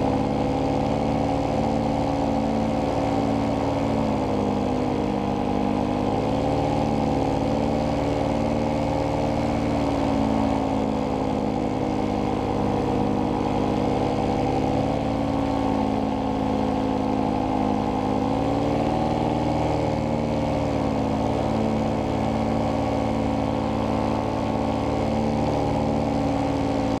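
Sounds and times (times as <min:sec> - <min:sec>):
paramotor engine and propeller: 0:00.0 - 0:27.0.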